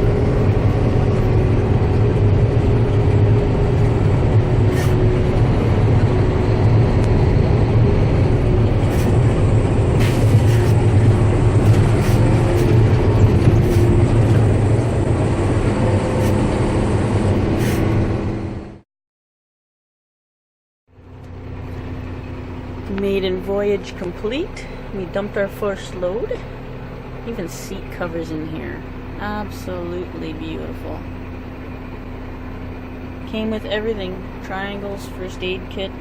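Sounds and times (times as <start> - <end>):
diesel truck engine droning: 0.0 - 18.8, 20.9 - 36.0.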